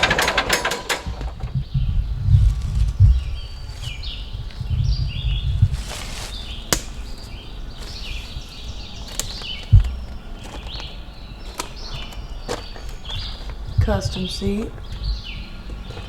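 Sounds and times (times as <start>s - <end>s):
birds chirping: 0.0s - 16.0s
wind rumbling on microphone: 0.0s - 16.0s.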